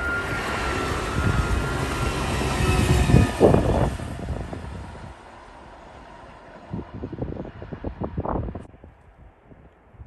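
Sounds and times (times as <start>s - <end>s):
passenger train passing: 0.0s - 9.6s.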